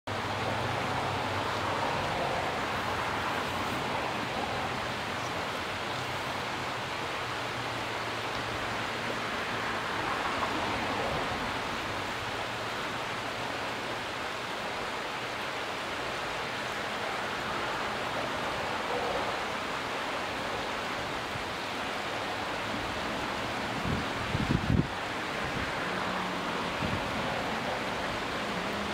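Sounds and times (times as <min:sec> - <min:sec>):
creek water flowing over rocks: 0:00.1 - 0:28.9.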